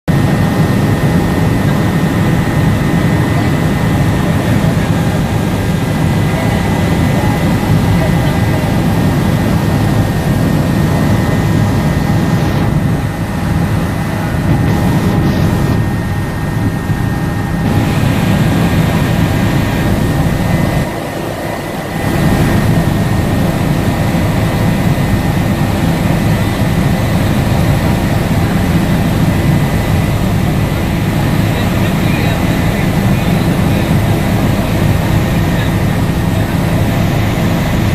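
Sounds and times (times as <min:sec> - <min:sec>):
helicopter engine and rotor drone: 0:00.1 - 0:37.9
steady high whine: 0:00.1 - 0:37.9.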